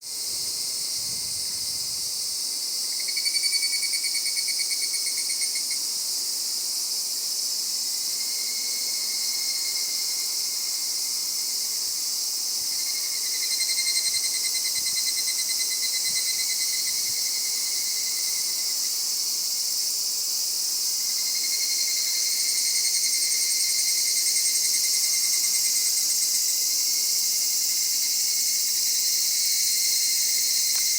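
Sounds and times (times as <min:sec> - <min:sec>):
cicadas pulsing trills: 0:00.0 - 0:30.9
high insect chorus: 0:00.0 - 0:30.9.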